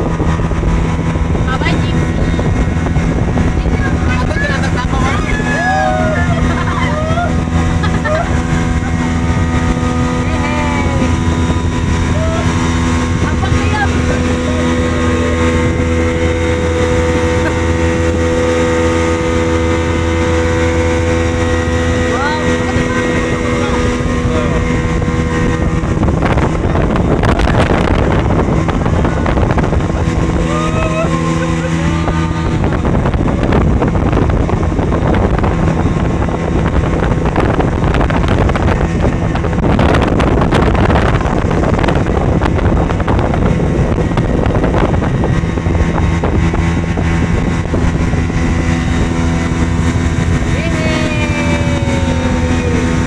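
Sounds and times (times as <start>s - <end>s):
jet ski engine running: 0.0s - 53.0s
water rushing: 0.0s - 53.0s
wind noise on microphone: 0.0s - 53.0s.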